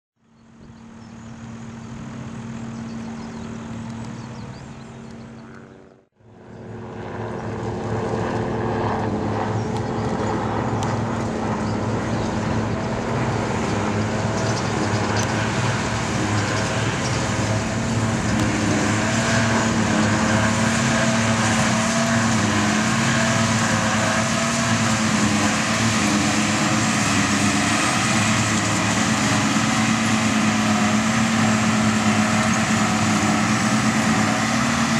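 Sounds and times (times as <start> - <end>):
farm machinery engines running: 0.4 - 34.9.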